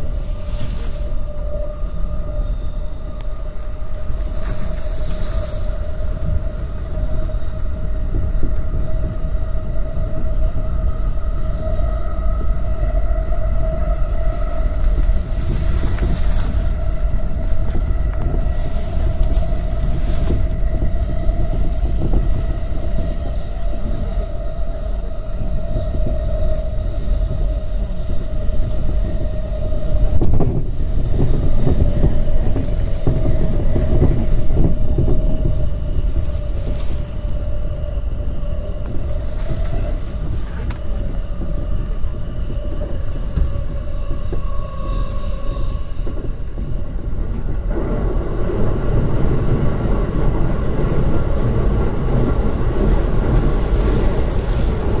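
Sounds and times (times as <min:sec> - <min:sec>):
steady whine: 0:00.0 - 0:55.0
train wheels rumbling on rail: 0:00.0 - 0:55.0.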